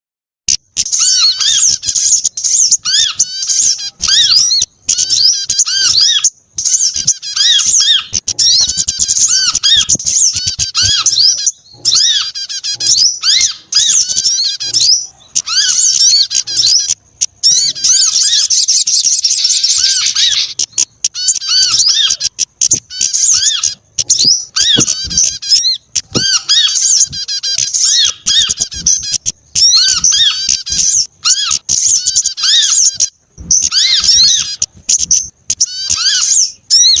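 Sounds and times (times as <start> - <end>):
bird trilling: 0.5 - 37.0
small songbirds chirping: 0.5 - 37.0.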